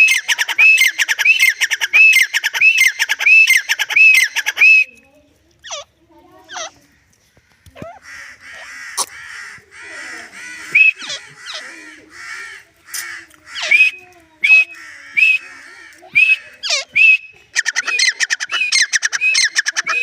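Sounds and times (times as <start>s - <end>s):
bird calling harsh rasping notes: 0.0s - 20.0s.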